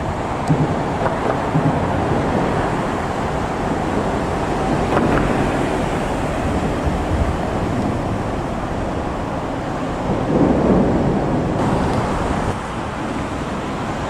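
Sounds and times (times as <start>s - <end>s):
traffic passing: 0.0s - 14.0s
wind buffeting microphone: 0.0s - 14.0s.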